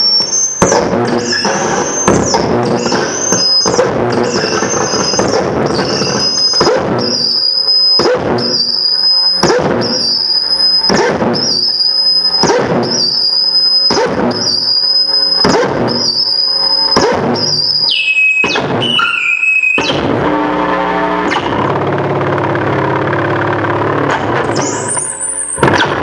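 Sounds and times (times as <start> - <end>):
harsh noise burst: 0.0 - 26.0
high looping electronic squeal: 0.0 - 26.0.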